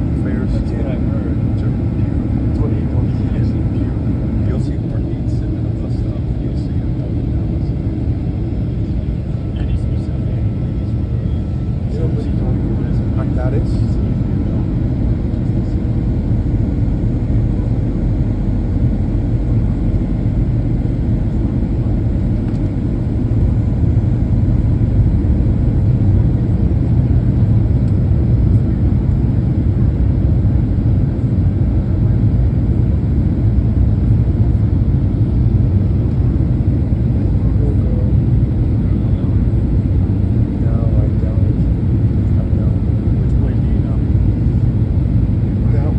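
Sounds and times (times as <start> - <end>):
airplane engines rumbling in cabin: 0.0 - 45.9.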